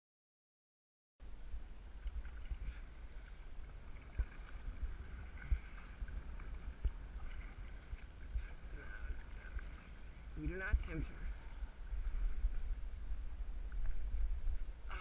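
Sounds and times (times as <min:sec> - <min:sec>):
wind rumbling on microphone: 0:01.2 - 0:15.0
water splashing against kayak hull: 0:01.8 - 0:14.7.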